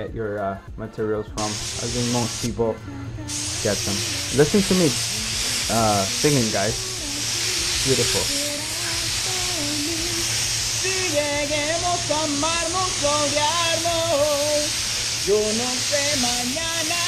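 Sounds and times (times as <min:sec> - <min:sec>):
man singing: 0:00.0 - 0:17.0
spray gun air hiss: 0:01.4 - 0:02.6, 0:03.2 - 0:17.0.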